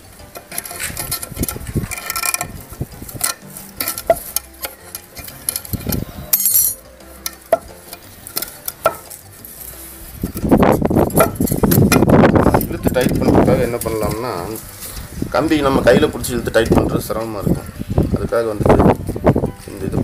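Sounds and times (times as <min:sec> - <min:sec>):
wire scratching on wood: 0:00.0 - 0:17.8.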